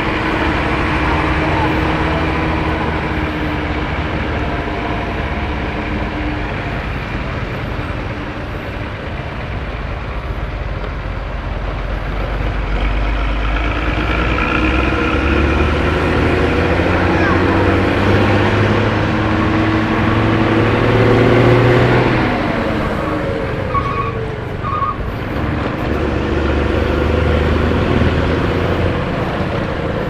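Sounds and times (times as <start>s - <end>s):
bus diesel engine rumbling: 0.0s - 30.0s.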